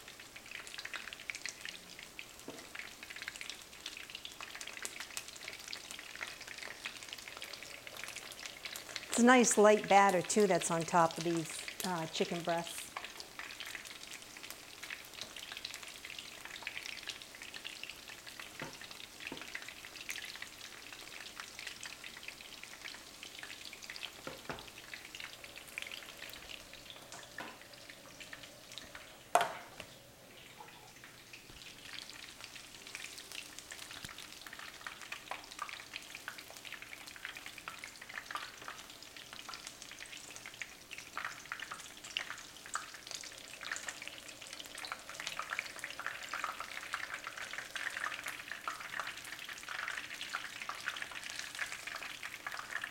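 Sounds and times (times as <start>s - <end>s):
chicken frying in oil: 0.0s - 52.9s.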